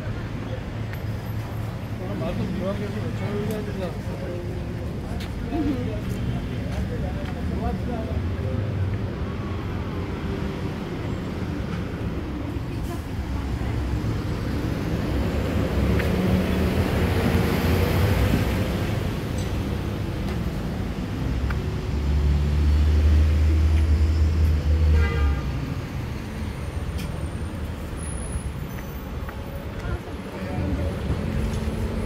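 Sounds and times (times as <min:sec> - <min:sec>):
cars passing: 0:00.0 - 0:32.0.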